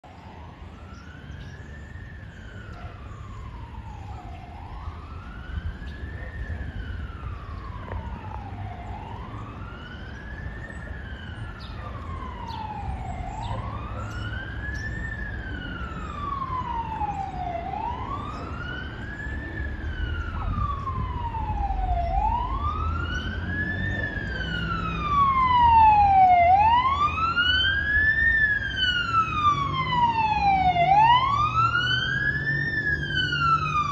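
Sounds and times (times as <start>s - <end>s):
fire engine wail siren: 0.0s - 33.9s
low engine and traffic rumble: 0.0s - 33.9s.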